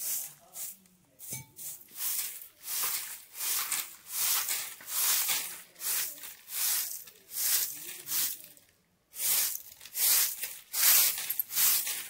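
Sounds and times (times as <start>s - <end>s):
broom sweeping the ground: 0.0s - 12.0s.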